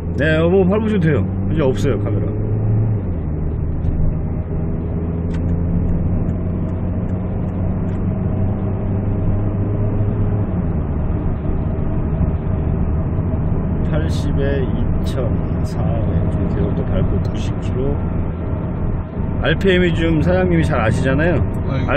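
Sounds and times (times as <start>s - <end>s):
car engine drone: 0.0s - 21.9s.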